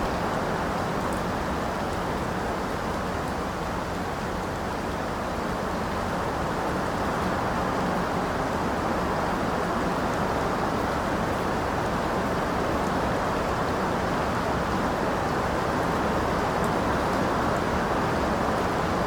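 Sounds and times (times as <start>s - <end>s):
steady heavy rain: 0.0s - 19.0s.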